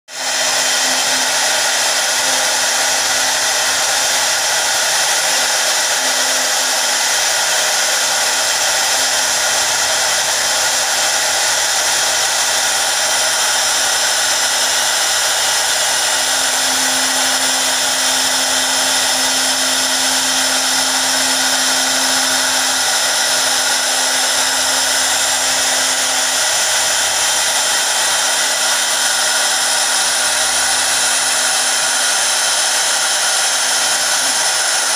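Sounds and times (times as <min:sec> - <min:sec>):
router spindle high whine: 0:00.1 - 0:34.9.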